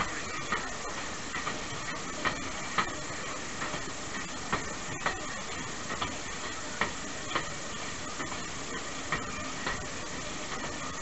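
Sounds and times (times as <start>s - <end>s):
wheels clicking on rails: 0.0s - 11.0s.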